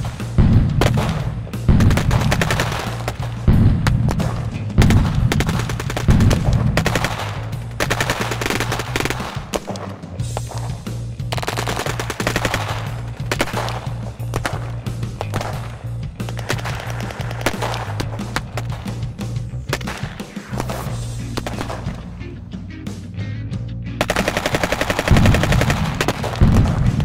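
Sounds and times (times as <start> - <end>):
machine-gun fire: 0.0 - 22.1, 24.0 - 27.0
heavy low thuds: 0.0 - 23.8, 25.1 - 27.0
background music: 0.0 - 27.0.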